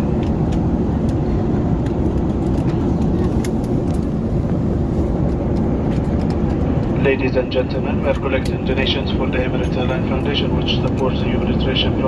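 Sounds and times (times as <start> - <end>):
airplane cabin noise: 0.0 - 12.0.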